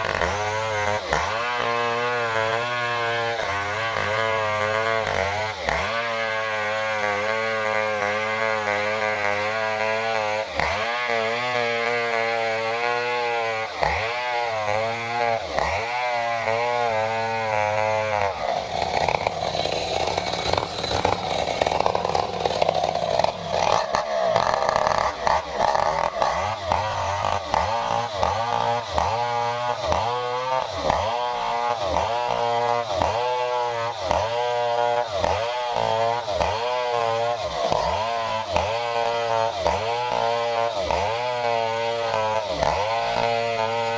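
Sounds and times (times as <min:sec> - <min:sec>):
chainsaw cutting through log: 0:00.0 - 0:43.9.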